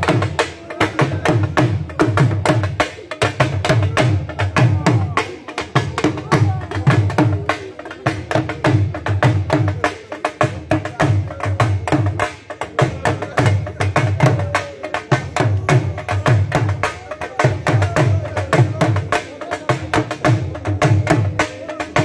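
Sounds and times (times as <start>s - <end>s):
dhol drum rhythm: 0.0s - 22.0s.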